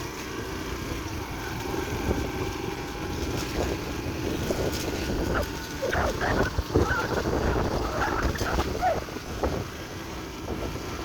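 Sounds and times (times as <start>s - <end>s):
motorbike engine rumbling: 0.0s - 11.0s.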